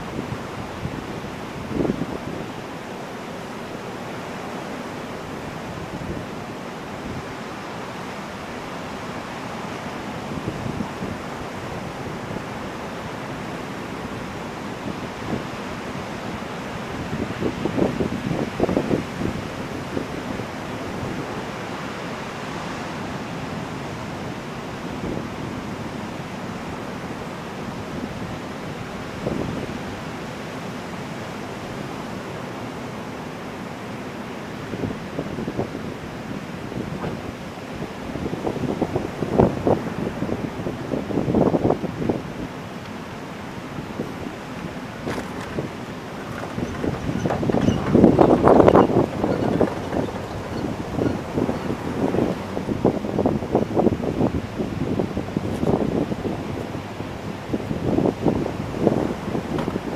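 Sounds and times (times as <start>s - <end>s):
ocean surf breaking on a beach: 0.0s - 59.9s.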